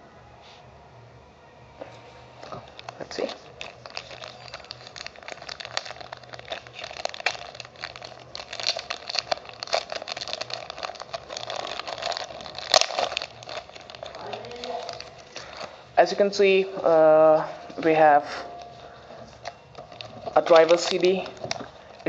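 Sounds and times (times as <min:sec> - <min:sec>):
plastic bag crinkling: 0:02.4 - 0:22.0.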